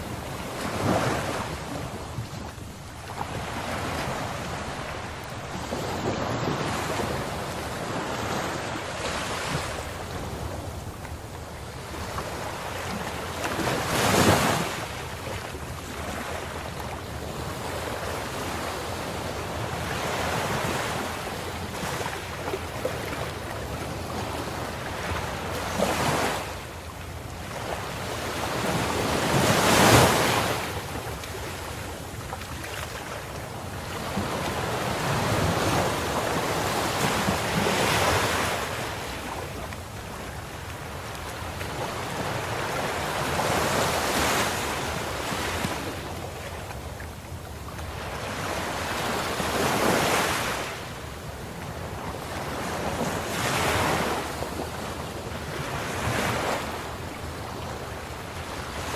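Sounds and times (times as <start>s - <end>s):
ocean waves breaking: 0.0s - 26.7s, 27.4s - 58.9s.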